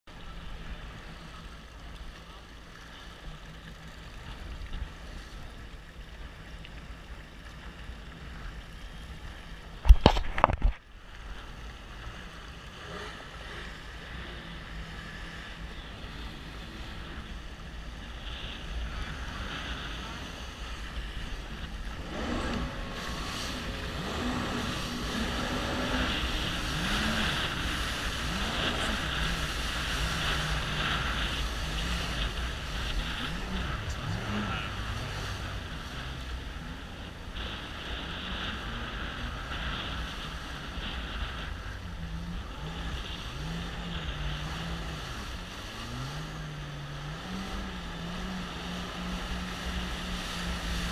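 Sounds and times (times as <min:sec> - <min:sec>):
jet ski engine running: 0:00.1 - 0:50.9
water rushing past hull: 0:00.1 - 0:50.9.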